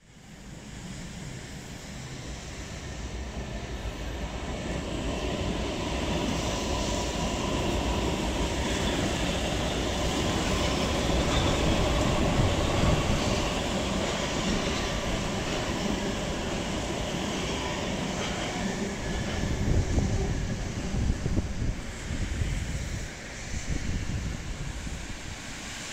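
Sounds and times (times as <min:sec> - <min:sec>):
faint train whine: 0:00.0 - 0:25.9
train wheels rumbling on rail: 0:00.0 - 0:25.9.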